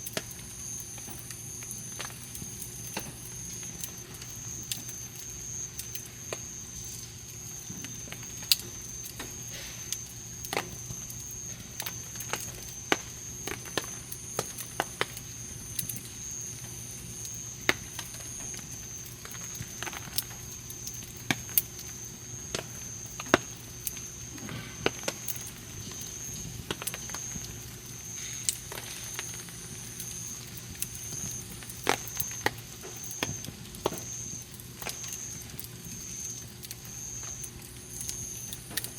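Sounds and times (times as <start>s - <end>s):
campfire wood crackling and popping: 0.0s - 38.9s
faint high whine: 0.0s - 38.9s.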